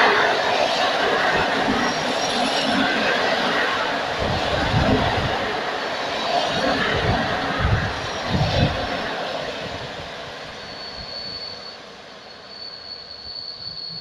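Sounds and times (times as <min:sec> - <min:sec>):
wheels squealing on rails: 0:00.0 - 0:14.0.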